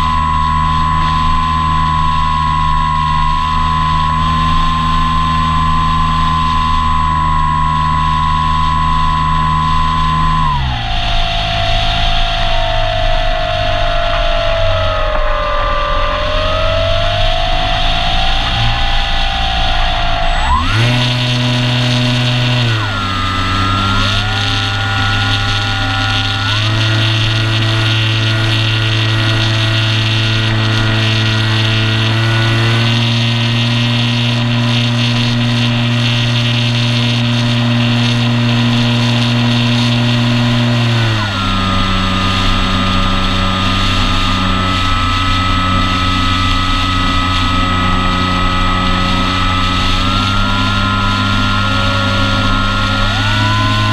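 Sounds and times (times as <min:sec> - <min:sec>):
electric motor propeller whine: 0:00.0 - 0:53.9.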